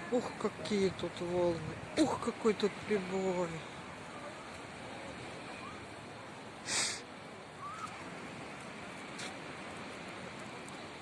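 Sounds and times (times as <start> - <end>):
surf breaking on shore: 0.0 - 11.0.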